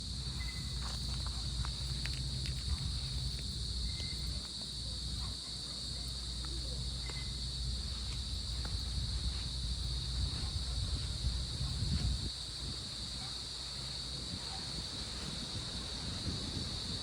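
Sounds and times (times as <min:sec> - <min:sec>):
crickets trilling: 0:00.0 - 0:17.0
low rumble of wind: 0:00.0 - 0:17.0.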